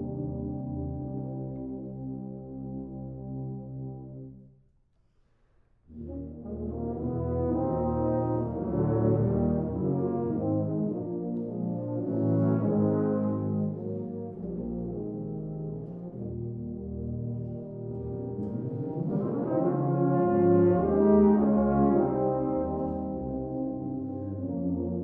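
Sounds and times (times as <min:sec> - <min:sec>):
brass quartet playing chords: 0:00.0 - 0:04.5, 0:05.9 - 0:25.0.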